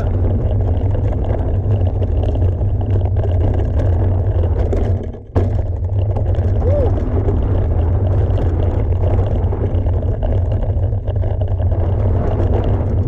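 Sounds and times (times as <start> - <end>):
bike tyres rolling on dirt: 0.0 - 13.0
wind rumbling on microphone: 0.0 - 13.0.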